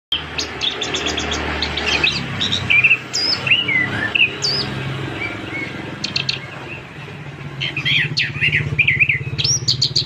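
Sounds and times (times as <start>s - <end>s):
thrush singing: 0.1s - 10.0s.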